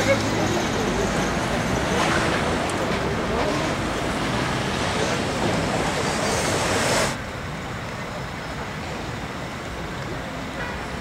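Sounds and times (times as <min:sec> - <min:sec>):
street traffic rush: 0:00.0 - 0:11.0.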